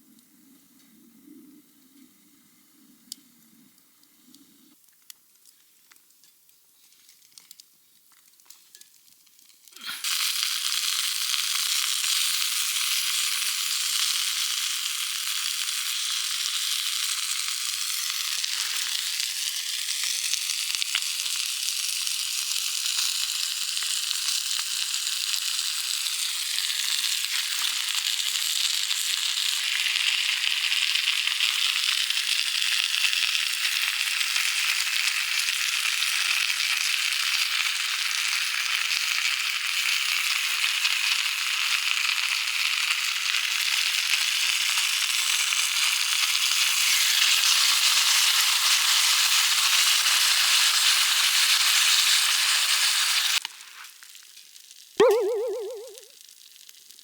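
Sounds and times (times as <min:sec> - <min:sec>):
food sizzling in a hot pan: 0:08.5 - 0:57.0.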